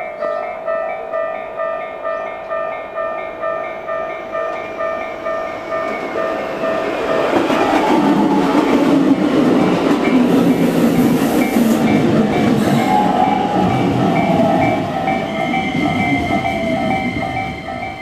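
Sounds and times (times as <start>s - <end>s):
railway crossing bell ringing: 0.0s - 8.8s, 11.3s - 18.0s
passing train noise: 0.0s - 18.0s.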